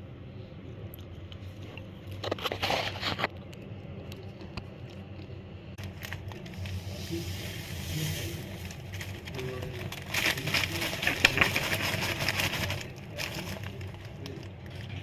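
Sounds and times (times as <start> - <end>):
popcorn crackling: 2.1 - 15.0.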